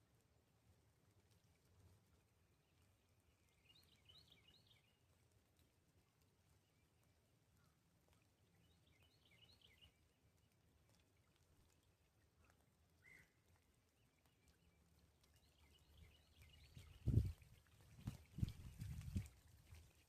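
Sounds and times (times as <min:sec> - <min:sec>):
faint songbird chirping: 0:01.2 - 0:05.7, 0:06.4 - 0:20.0.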